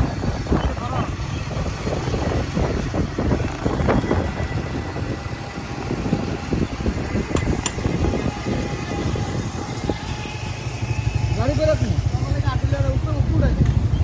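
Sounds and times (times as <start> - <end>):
motorcycle running: 0.0 - 14.0
wind buffeting microphone: 0.0 - 14.0.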